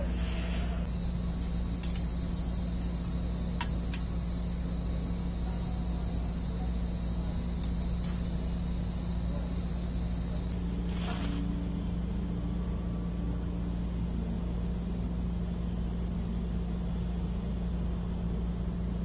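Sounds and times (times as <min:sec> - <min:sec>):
faint high whine: 0:00.0 - 0:19.0
low machine hum: 0:00.0 - 0:19.0.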